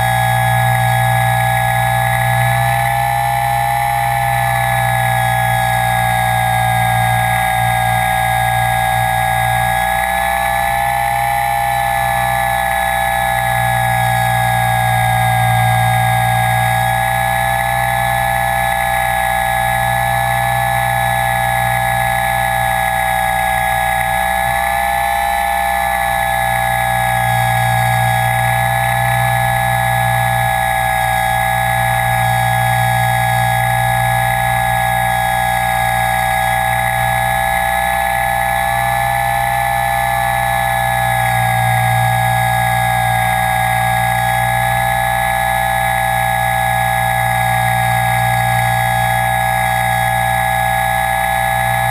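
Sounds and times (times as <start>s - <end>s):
model aircraft motors whining: 0.0s - 51.9s.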